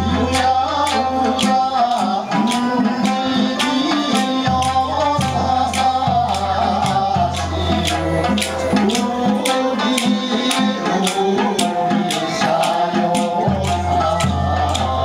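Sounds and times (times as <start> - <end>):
person singing: 0.0 - 15.0
percussion clicks: 0.2 - 15.0.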